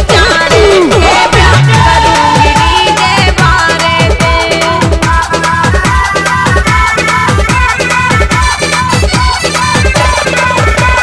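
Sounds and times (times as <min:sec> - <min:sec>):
electronic kick drum: 0:00.0 - 0:11.0.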